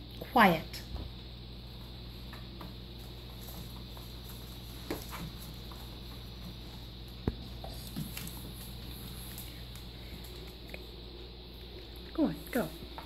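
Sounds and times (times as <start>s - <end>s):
steady low hum: 0.0s - 13.0s
puppies scampering on foam mats: 0.8s - 13.0s.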